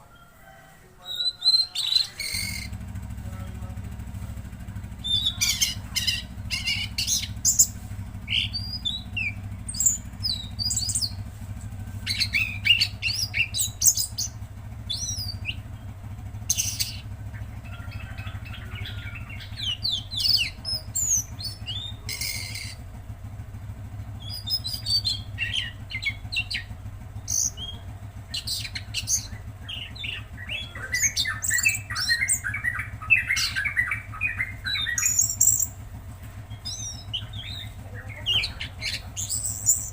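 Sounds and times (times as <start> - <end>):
songbird chirping and twittering: 0.0 - 39.9
steady low hum: 1.9 - 39.9.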